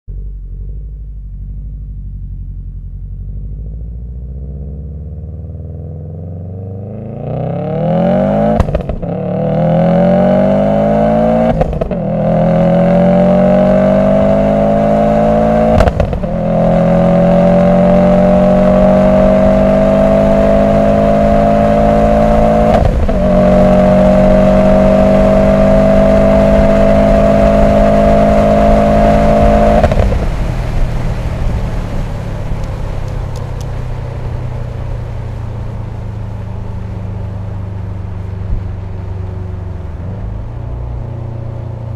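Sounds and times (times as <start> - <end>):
car engine at full throttle: 0.1 - 41.9.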